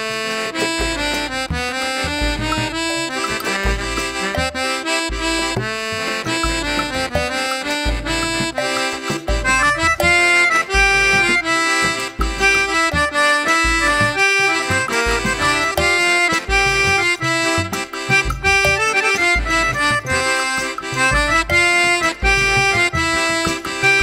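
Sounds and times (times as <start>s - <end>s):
instrumental music with bass pulse: 0.0s - 24.0s.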